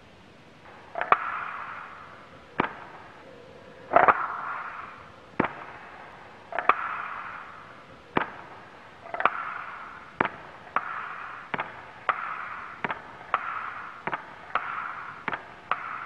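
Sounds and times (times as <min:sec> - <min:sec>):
sharp cracks: 0:00.5 - 0:16.0.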